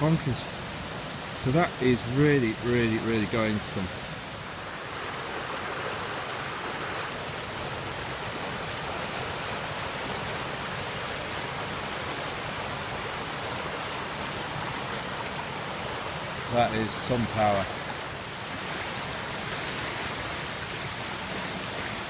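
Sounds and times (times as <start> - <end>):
water rushing over a weir: 0.0 - 22.0.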